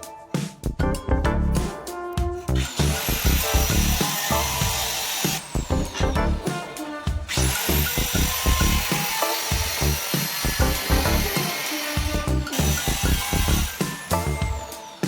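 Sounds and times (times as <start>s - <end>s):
background music: 0.0s - 15.0s
tile cutter motor whining: 2.6s - 15.0s.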